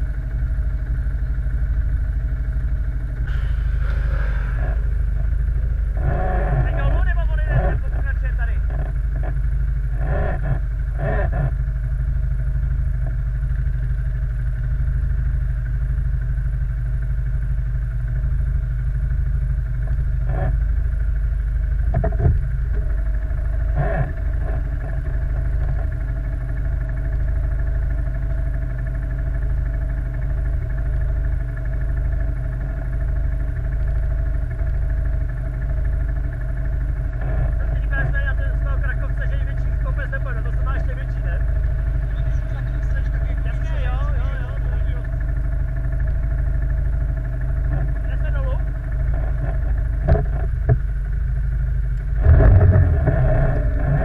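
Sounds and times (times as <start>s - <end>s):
quad bike engine droning: 0.0s - 54.0s.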